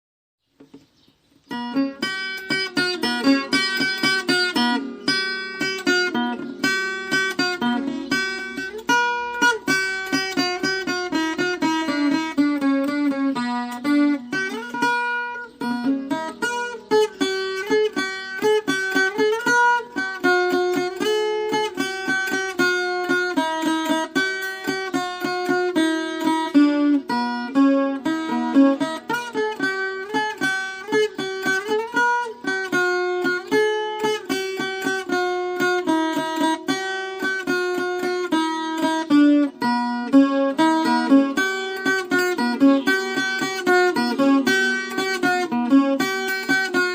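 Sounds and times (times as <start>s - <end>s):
plucked folk guitar melody: 0.4s - 46.9s.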